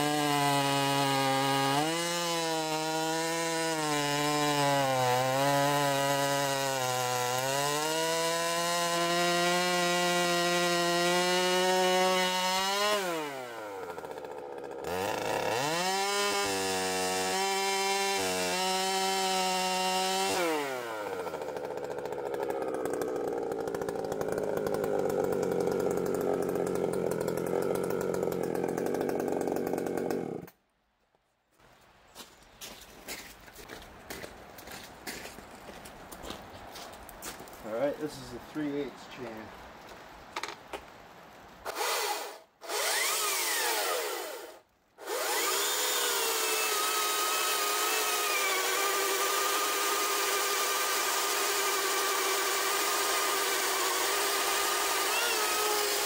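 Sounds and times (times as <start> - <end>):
chainsaw cutting log: 0.0 - 30.6, 41.6 - 56.0.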